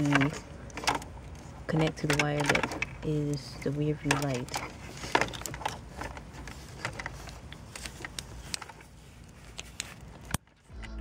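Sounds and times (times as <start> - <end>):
wire rustling: 0.0 - 10.7.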